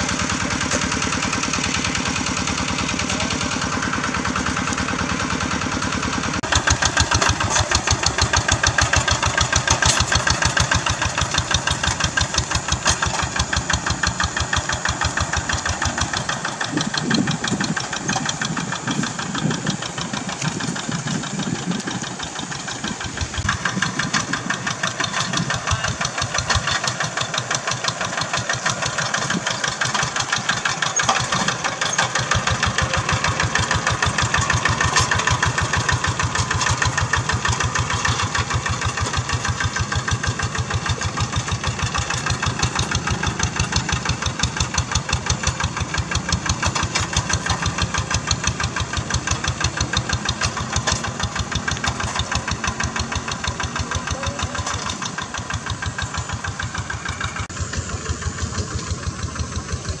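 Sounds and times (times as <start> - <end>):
hand tractor diesel engine chugging: 0.0 - 60.0.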